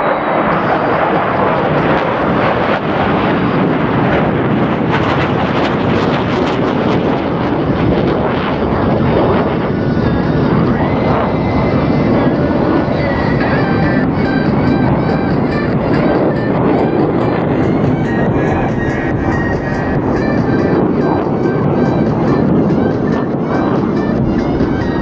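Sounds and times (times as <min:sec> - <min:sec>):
loud jet noise with crackling: 0:00.0 - 0:25.0.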